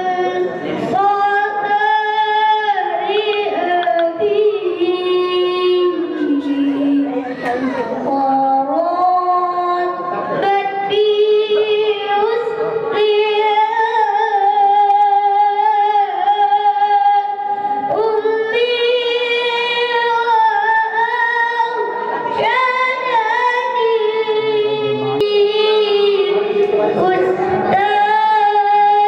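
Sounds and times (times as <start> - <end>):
woman singing unaccompanied: 0.0 - 29.0.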